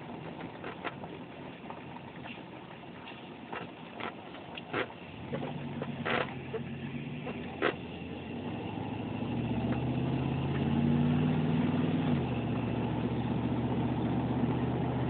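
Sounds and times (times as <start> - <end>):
pickup truck engine driving: 0.0 - 15.0.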